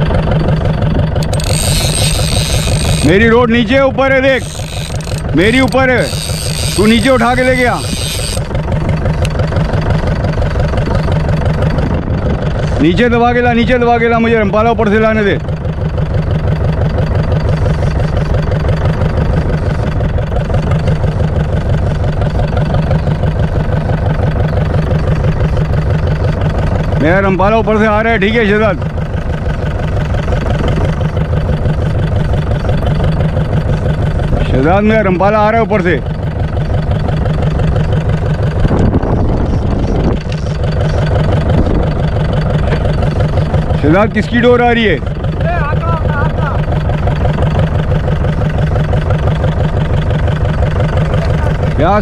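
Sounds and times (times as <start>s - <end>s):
boat diesel engine running: 0.0s - 52.0s.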